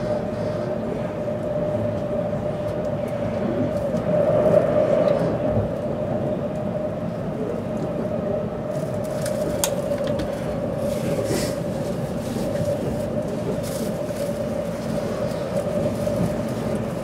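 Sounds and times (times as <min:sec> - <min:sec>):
steady hum: 0:00.0 - 0:17.0
train running rumble: 0:00.0 - 0:17.0.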